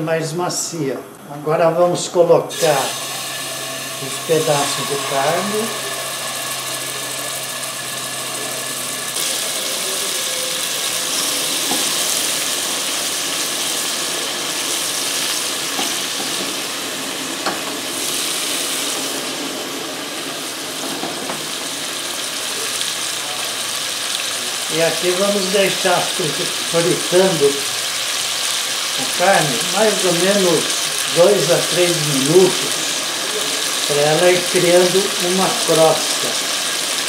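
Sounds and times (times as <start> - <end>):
meat sizzling in hot oil: 2.5 - 37.0.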